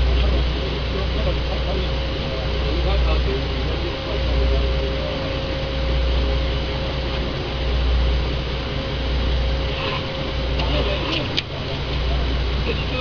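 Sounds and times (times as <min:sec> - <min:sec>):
boat engine rumbling: 0:00.0 - 0:13.0
wind and water noise: 0:00.0 - 0:13.0.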